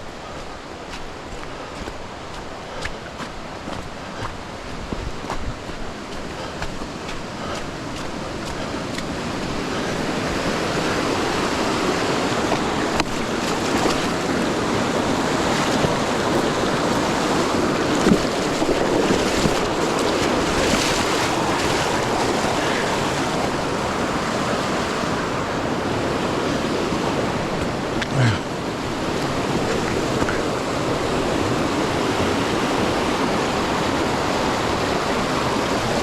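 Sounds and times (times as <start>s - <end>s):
fast-flowing river rushing: 0.0s - 36.0s.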